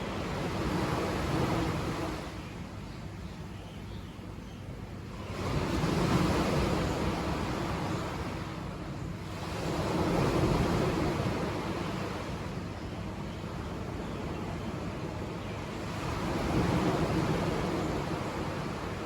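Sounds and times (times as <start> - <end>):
sea waves breaking on beach: 0.0 - 2.7, 5.1 - 19.0.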